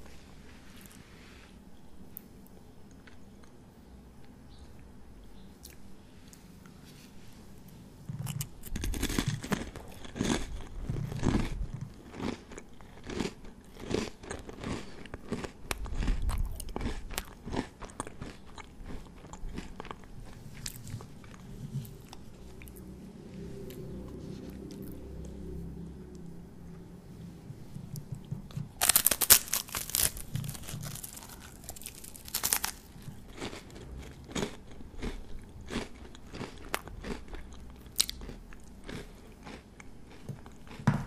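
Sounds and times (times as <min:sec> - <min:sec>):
crunching and chewing crisp food: 0:00.0 - 0:27.0, 0:27.7 - 0:41.0.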